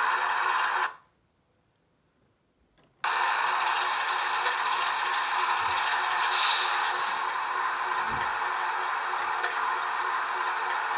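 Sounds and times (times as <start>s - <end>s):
diesel engine sound through small speaker: 0.0s - 1.0s, 3.0s - 10.9s.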